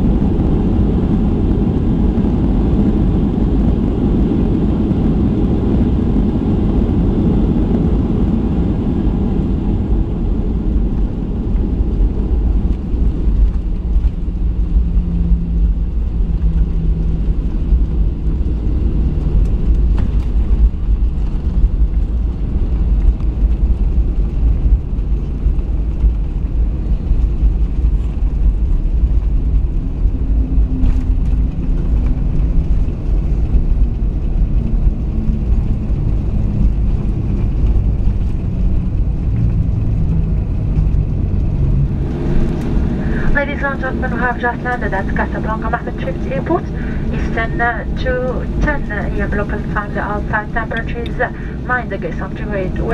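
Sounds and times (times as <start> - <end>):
low rumble of wheels and engines: 0.0 - 52.9.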